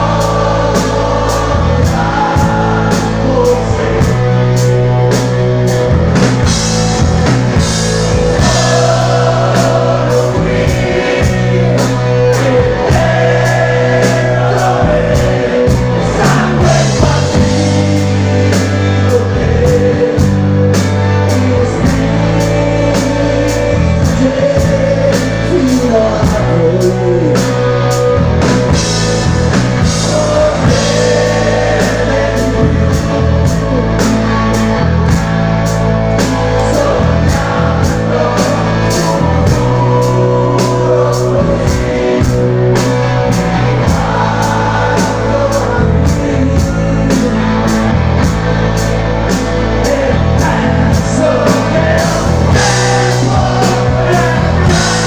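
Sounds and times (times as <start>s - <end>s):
man singing: 0.0s - 4.8s, 8.0s - 48.4s, 49.3s - 55.0s
drum kit beat: 0.0s - 55.0s
electric guitar: 0.0s - 55.0s.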